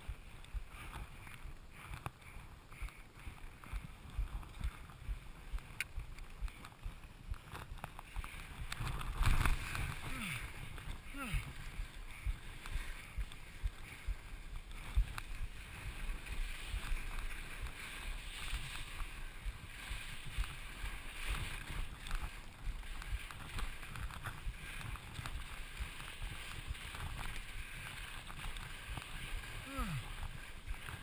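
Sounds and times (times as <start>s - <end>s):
skis scraping over snow: 0.0s - 31.0s.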